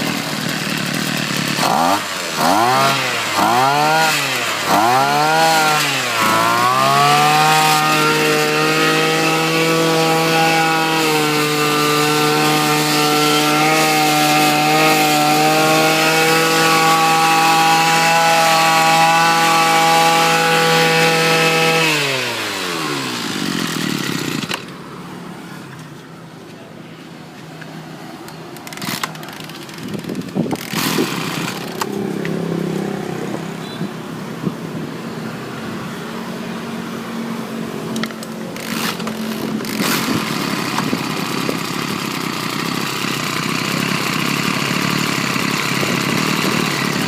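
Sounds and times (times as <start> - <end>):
brush cutter engine revving: 0.0 - 25.1, 28.4 - 33.8, 36.5 - 47.0.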